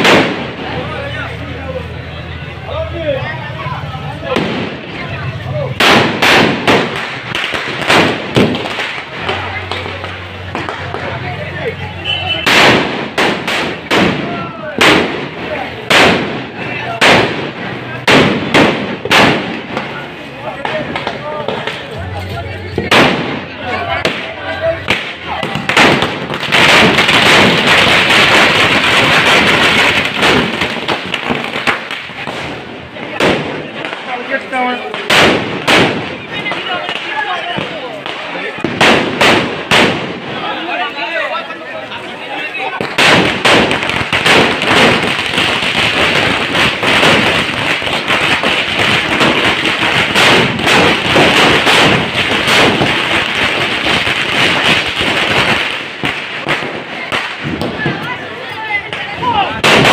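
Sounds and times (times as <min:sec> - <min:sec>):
firecrackers popping: 0:00.0 - 0:59.9.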